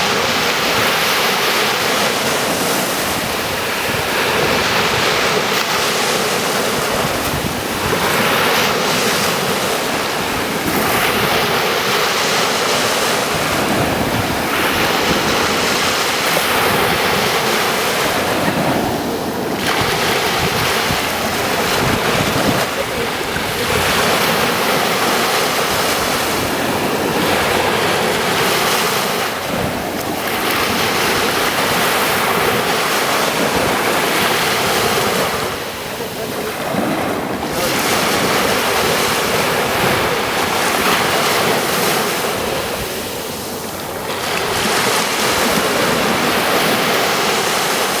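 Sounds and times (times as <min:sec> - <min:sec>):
ocean surf on a beach: 0:00.0 - 0:48.0
wind on microphone: 0:00.0 - 0:48.0.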